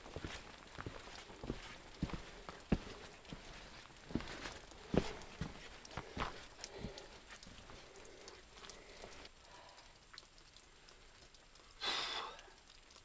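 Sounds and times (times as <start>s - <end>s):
rain dripping on rock: 0.0s - 13.0s.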